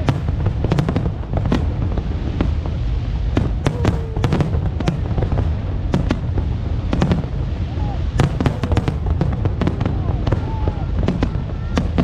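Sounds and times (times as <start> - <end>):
firework bangs and crackles: 0.0 - 12.0.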